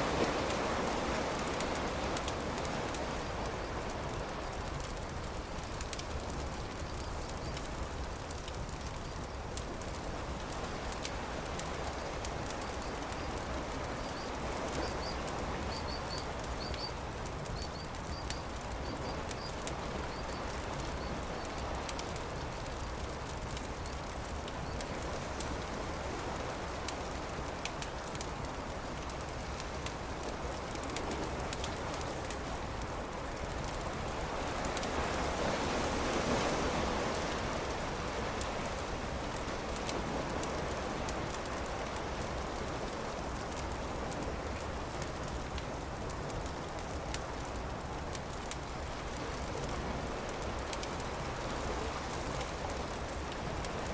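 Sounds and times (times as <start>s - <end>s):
campfire crackling: 0.0s - 53.9s
surf washing: 0.0s - 53.9s.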